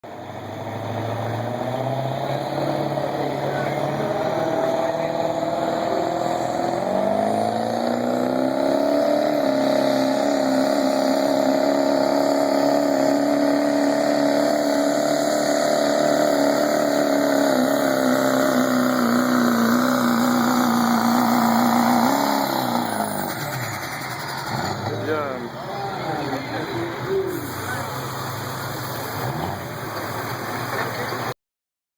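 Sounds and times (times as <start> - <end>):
truck engine revving: 0.0 - 31.3.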